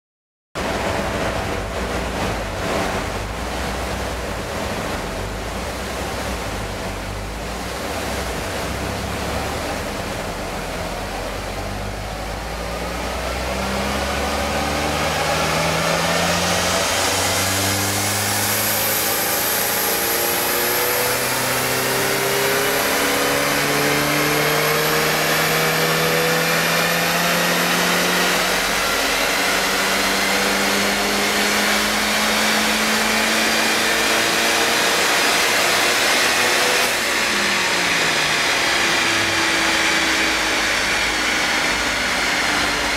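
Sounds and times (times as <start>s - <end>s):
car engine revving under load: 0.6s - 42.9s
steady rush of noise: 0.6s - 42.9s.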